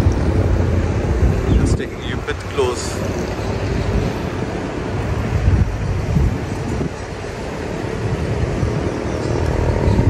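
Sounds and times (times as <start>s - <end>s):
road traffic: 0.0s - 10.0s
wind buffeting microphone: 0.0s - 10.0s.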